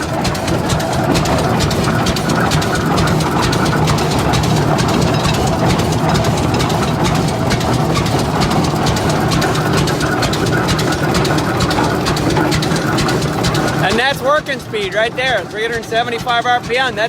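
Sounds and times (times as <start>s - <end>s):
tractor engine clattering: 0.0s - 17.0s.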